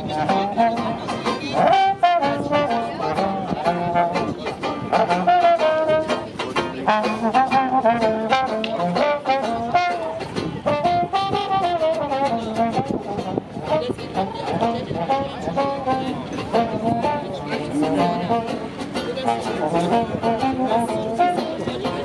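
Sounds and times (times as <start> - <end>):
upbeat brass music: 0.0 - 22.0.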